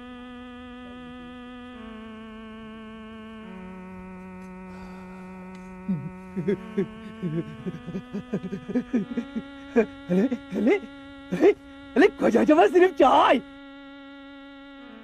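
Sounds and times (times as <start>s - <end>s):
background music drone: 0.0s - 15.0s.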